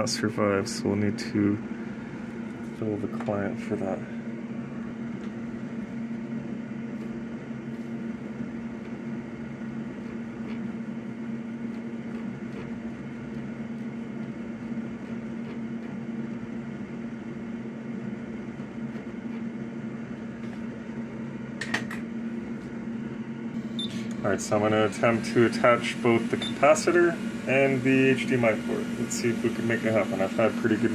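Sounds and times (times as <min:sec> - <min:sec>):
fan motor humming: 0:00.0 - 0:30.9.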